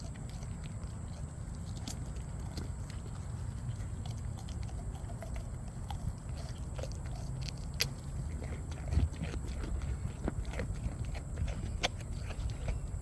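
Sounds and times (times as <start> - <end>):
goat chewing carrots: 0.0 - 13.0.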